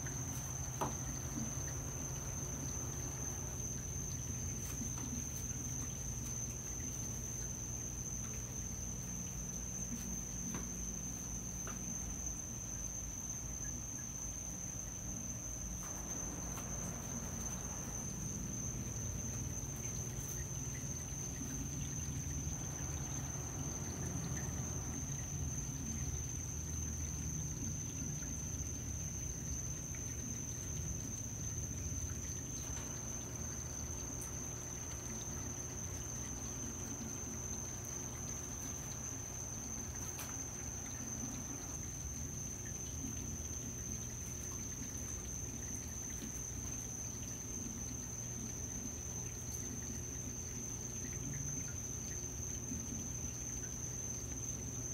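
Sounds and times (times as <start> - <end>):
aquarium filter hum: 0.0 - 54.9
water trickling: 0.0 - 54.9.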